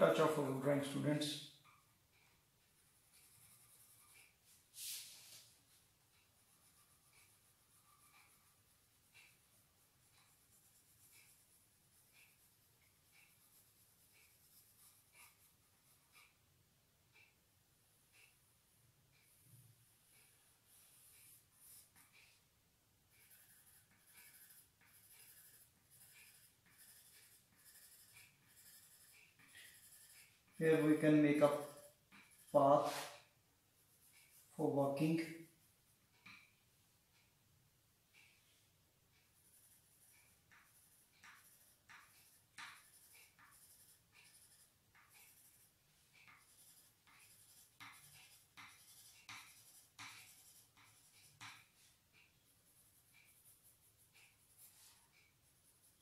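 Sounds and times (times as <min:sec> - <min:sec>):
crayon scratching on paper: 0:02.3 - 0:16.4, 0:19.2 - 0:22.5, 0:23.1 - 0:36.5, 0:39.1 - 0:56.0.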